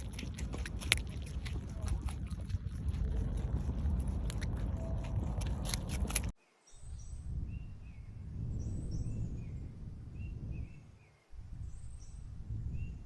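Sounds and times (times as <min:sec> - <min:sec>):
low rumbling noise: 0:00.0 - 0:06.4, 0:07.1 - 0:13.0.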